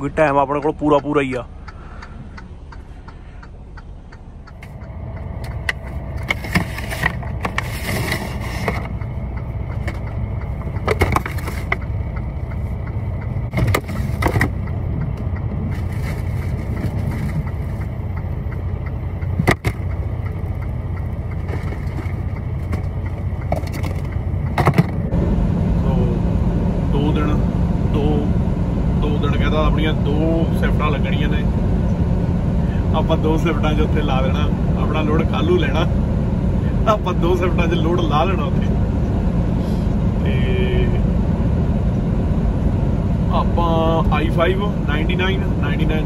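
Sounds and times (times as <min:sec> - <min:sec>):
truck engine low rumble: 0:00.0 - 0:46.0.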